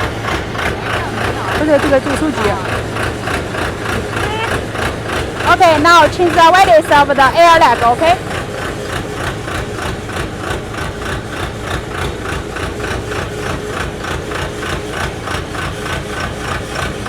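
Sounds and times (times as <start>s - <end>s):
drill rig engine running: 0.0s - 17.0s
fast pulsing rattle: 0.0s - 17.0s.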